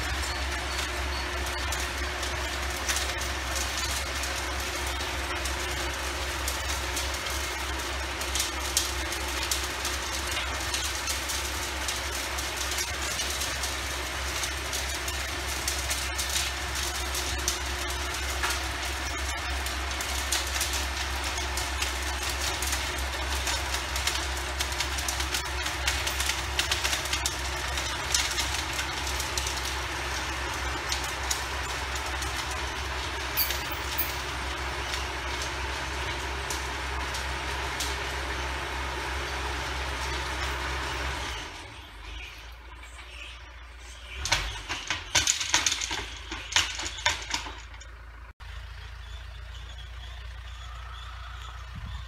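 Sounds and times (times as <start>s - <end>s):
tiller clattering: 0.0s - 43.3s, 44.1s - 50.4s
tractor engine running: 0.0s - 52.0s.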